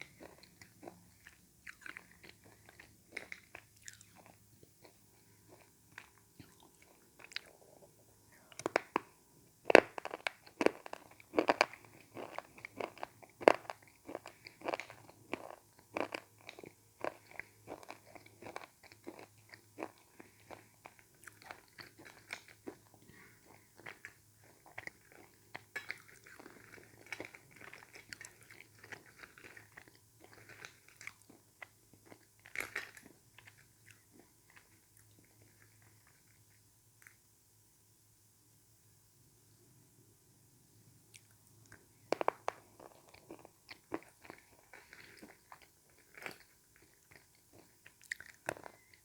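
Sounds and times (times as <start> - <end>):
crunching and chewing: 0.0 - 37.2, 41.1 - 49.0.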